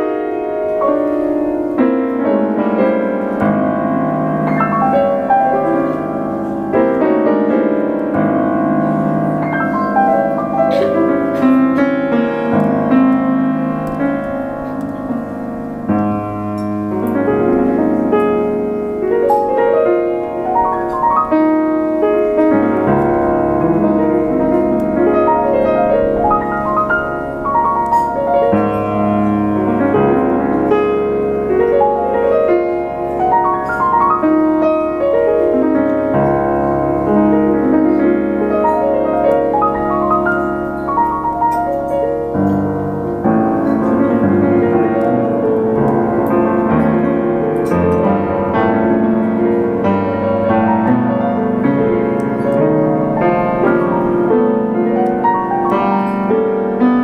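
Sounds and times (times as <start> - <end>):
classical piano piece: 0.0 - 57.0.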